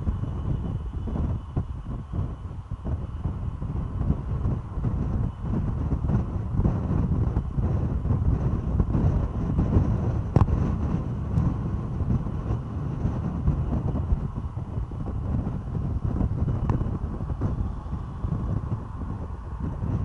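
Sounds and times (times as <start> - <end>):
road and wind noise: 0.0 - 20.0
wind buffeting microphone: 0.0 - 20.0.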